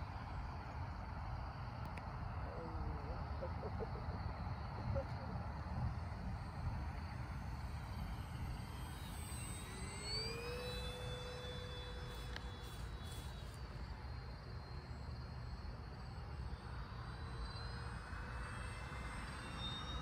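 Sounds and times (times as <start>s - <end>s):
model plane electric motor whine: 0.0s - 3.4s, 4.0s - 20.0s.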